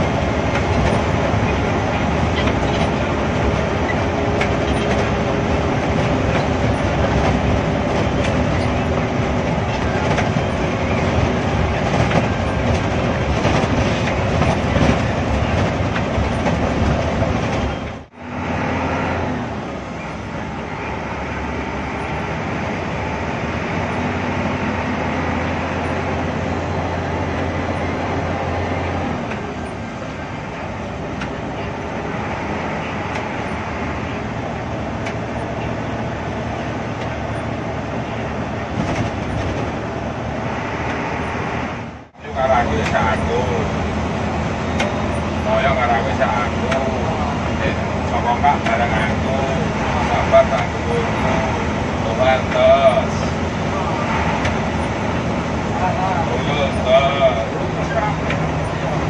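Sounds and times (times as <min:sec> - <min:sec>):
bus body rattles: 0:00.0 - 0:59.0
bus diesel engine running: 0:00.0 - 0:59.0
wet road noise: 0:00.0 - 0:59.0.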